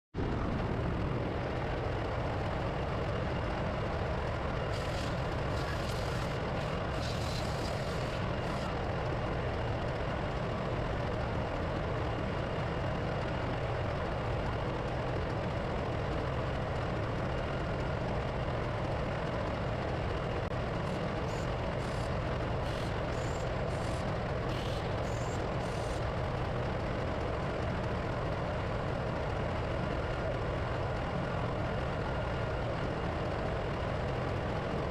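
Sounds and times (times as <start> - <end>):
diesel machinery drone: 0.2 - 34.9.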